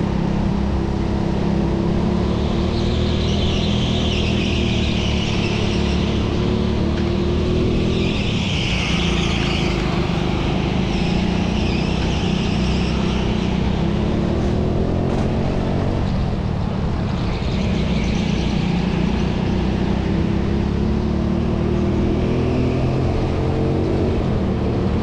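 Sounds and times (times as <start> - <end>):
go-kart engine running: 0.0 - 22.1.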